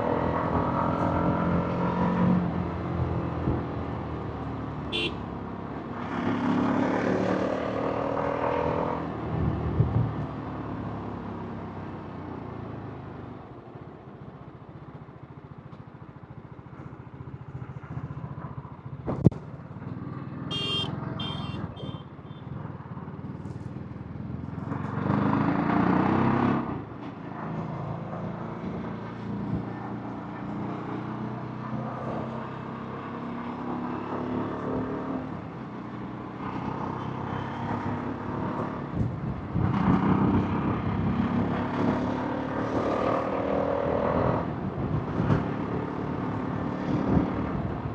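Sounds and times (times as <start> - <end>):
motorcycle engine and exhaust: 0.0 - 47.9.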